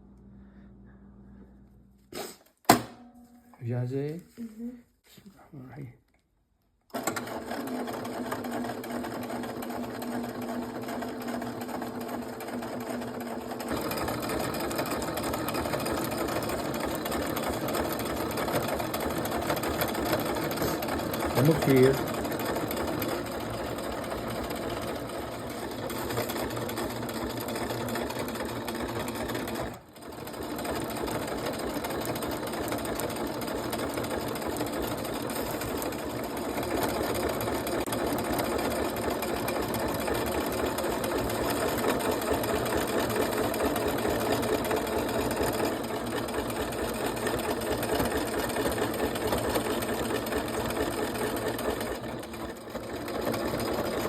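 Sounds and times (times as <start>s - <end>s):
electric sewing machine stitching: 6.9s - 54.0s.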